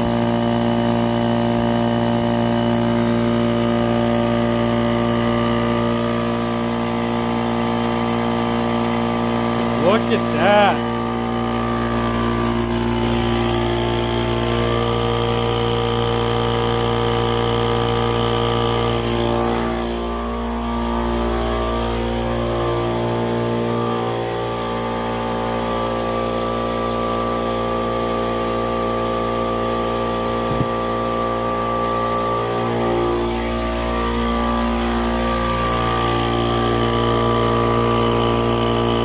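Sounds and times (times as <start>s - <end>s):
air compressor running: 0.0s - 39.0s.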